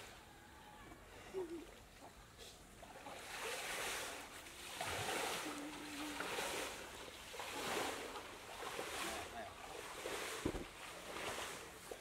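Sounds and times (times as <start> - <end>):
water sloshing and splashing: 1.5 - 12.0.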